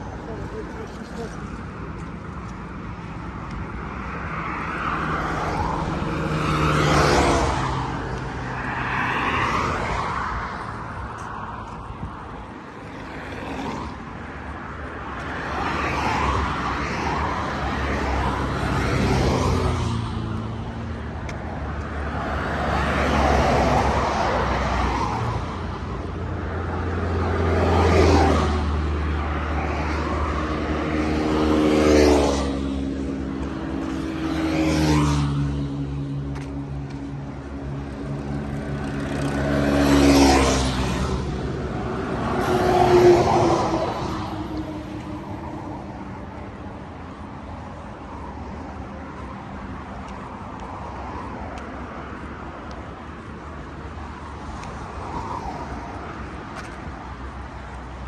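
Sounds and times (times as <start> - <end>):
cars passing: 0.0 - 58.0.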